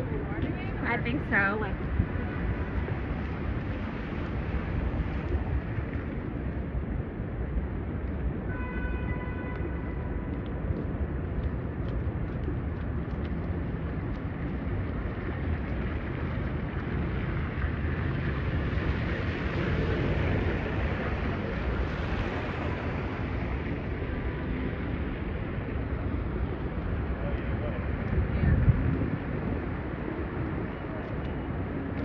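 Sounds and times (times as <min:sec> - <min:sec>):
street traffic noise: 0:00.0 - 0:32.0
wind rumbling on microphone: 0:00.0 - 0:32.0.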